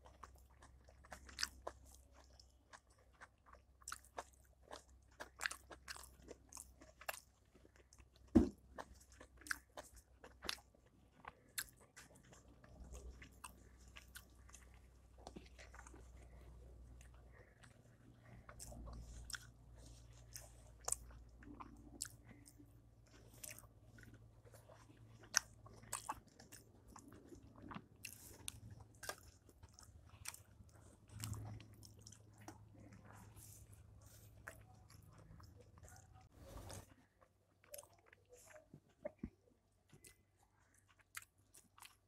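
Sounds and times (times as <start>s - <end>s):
low steady hum: 0.0s - 42.0s
person chewing and lip-smacking: 0.0s - 42.0s.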